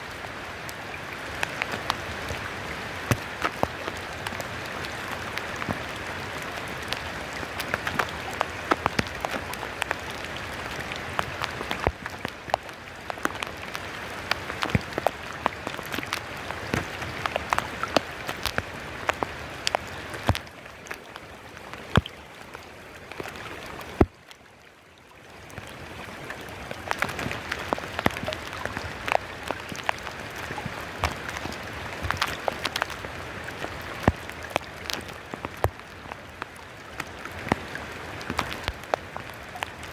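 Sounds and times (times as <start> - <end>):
heavy rain falling: 0.0 - 24.1, 25.5 - 39.9
drops and drips hitting surfaces: 0.6 - 24.4, 26.3 - 39.9.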